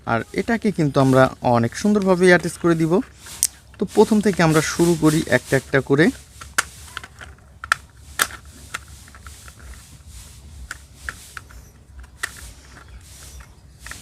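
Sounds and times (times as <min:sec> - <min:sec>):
plastic parts rubbing: 0:00.1 - 0:14.0.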